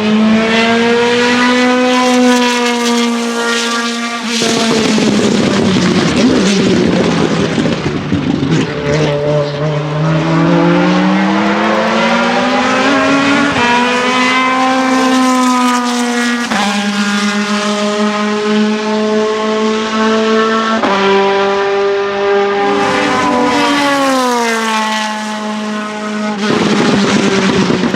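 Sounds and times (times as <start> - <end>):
racing car engine revving: 0.0 - 27.9.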